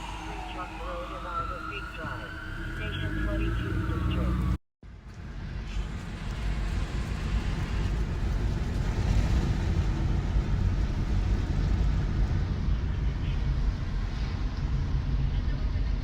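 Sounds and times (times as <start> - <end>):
road and wind noise: 0.0 - 16.0
vehicle engine rumble: 0.0 - 16.0.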